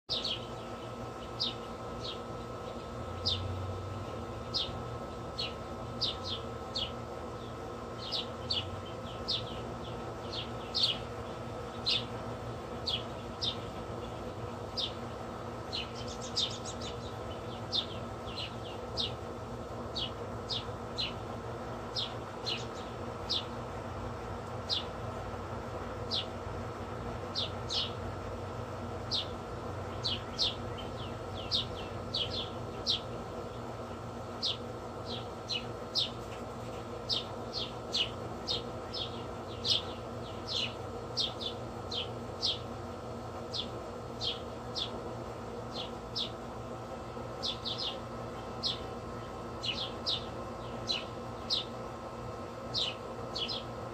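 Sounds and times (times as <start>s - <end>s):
steady hum: 0.1s - 53.9s.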